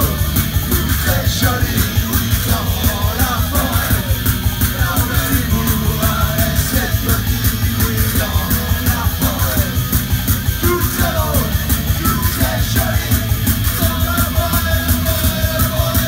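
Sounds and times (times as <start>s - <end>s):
electric guitar: 0.0s - 16.0s
fast drum beat: 0.0s - 16.0s
punk rock band playing live: 0.0s - 16.0s.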